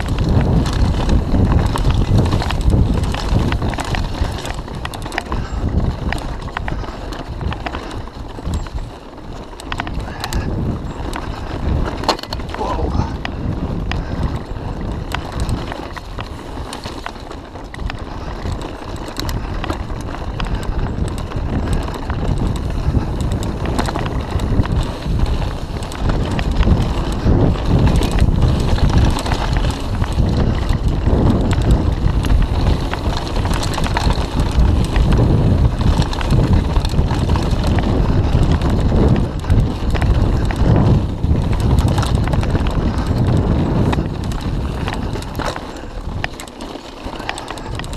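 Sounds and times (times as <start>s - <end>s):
bike rattling and knocking: 0.0s - 47.9s
bike tyres rumbling on dirt: 0.0s - 47.9s
wind buffeting microphone: 0.0s - 47.9s.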